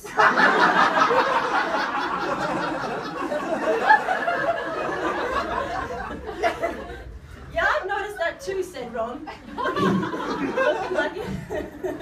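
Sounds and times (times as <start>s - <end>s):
audience laughing: 0.0s - 7.4s, 9.3s - 12.0s.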